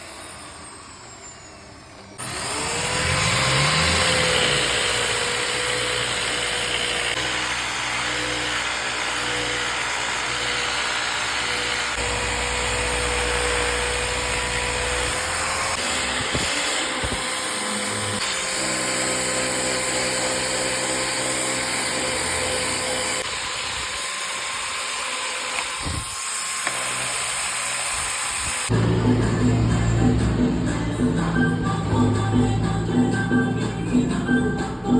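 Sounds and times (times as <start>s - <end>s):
power tool motor whining: 0.0s - 31.8s.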